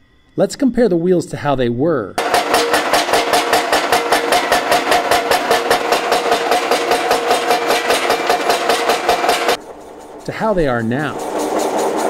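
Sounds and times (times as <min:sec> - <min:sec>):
mill hum: 0:02.2 - 0:12.0
steel rollers knocking: 0:02.2 - 0:12.0.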